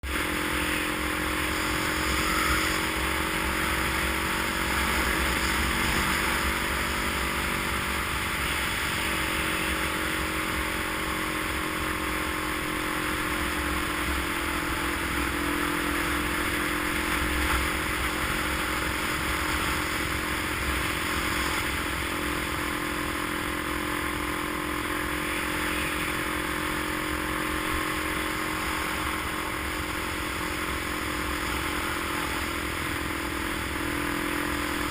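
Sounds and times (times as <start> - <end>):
road and wind noise: 0.0 - 34.9
vehicle engine running: 0.0 - 34.9.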